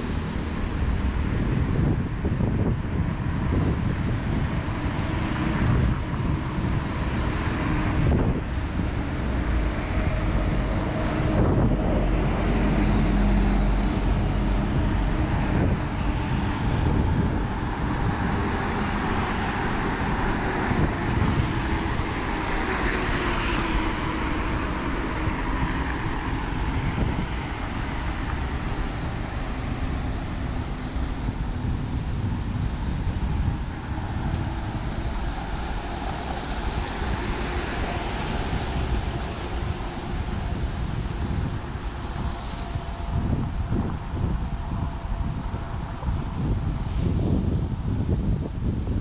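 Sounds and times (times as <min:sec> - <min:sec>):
cars passing on wet road: 0:00.0 - 0:49.0
steady traffic noise: 0:00.0 - 0:49.0
wind buffeting microphone: 0:00.0 - 0:49.0.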